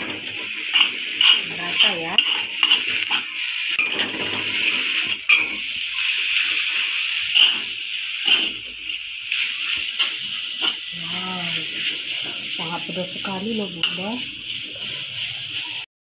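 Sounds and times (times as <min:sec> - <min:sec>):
metal spatula scraping a wok: 0:00.0 - 0:05.7, 0:06.4 - 0:08.7, 0:09.3 - 0:15.8
noodles sizzling in a wok: 0:00.0 - 0:15.9.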